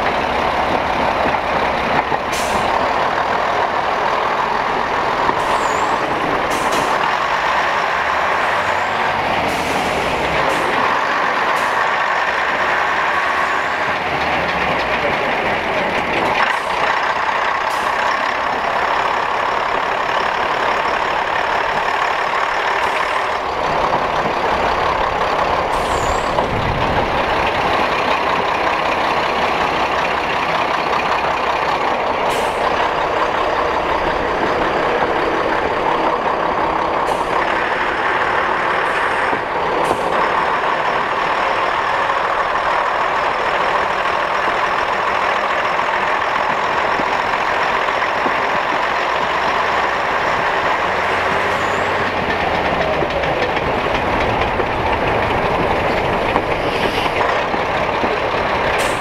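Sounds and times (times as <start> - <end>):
diesel train engine noise: 0.0 - 59.0
wheel and rail noise: 0.0 - 59.0.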